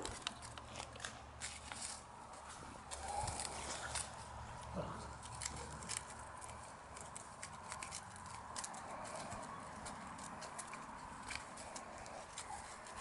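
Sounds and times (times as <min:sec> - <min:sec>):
puppies rustling dry leaves: 0:00.0 - 0:13.0.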